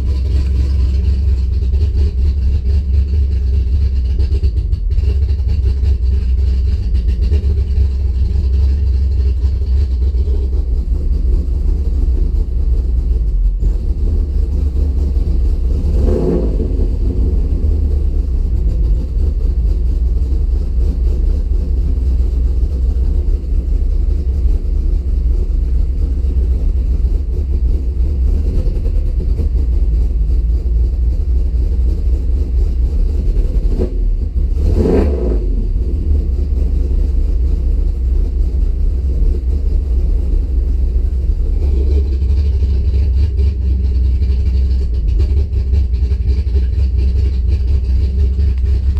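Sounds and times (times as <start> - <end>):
car engine idling roughly: 0.0 - 48.9.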